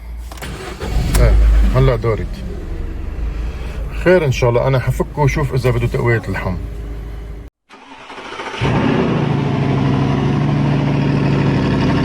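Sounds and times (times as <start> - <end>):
car engine running: 0.0 - 7.5, 8.6 - 12.0.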